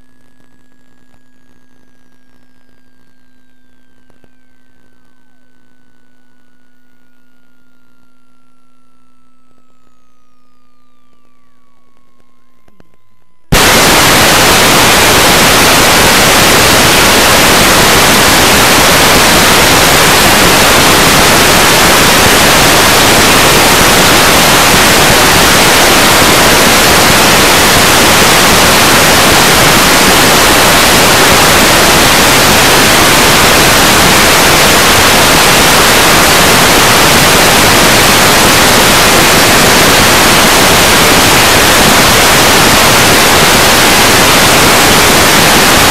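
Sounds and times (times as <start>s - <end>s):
white noise static: 0.0s - 45.9s.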